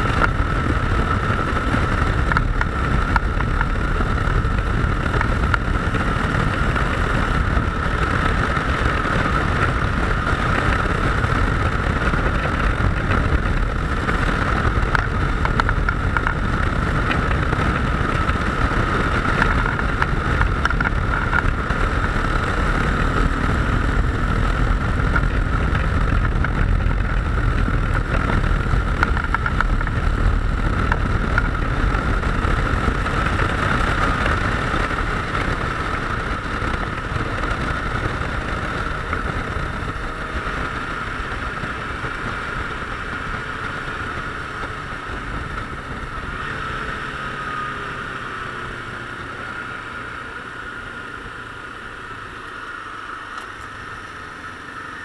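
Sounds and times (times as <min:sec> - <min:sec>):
motorcycle engine drone: 0:00.0 - 0:55.0
wind rushing over microphone: 0:00.0 - 0:55.0.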